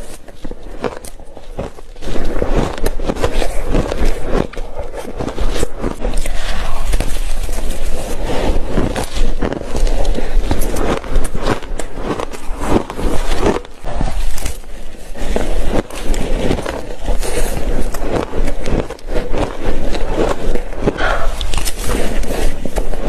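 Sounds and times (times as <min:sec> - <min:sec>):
person crunching shaved ice: 0:00.0 - 0:23.0.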